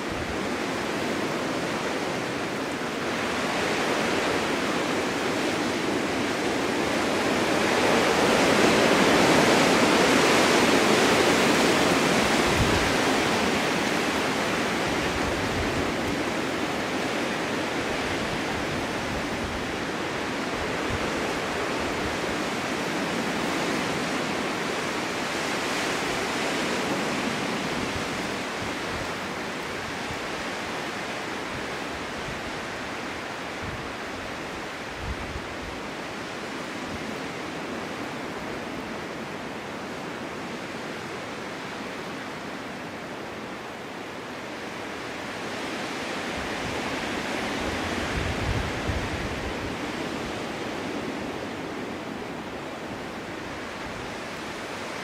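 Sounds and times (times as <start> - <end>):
snowstorm wind rushing: 0.0 - 37.0, 44.7 - 55.0.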